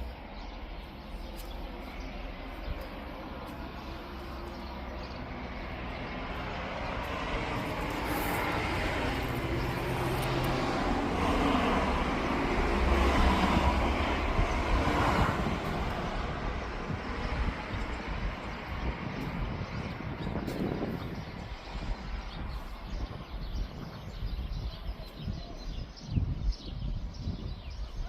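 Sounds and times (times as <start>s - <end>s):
passing vehicle rumble: 0.0s - 24.5s.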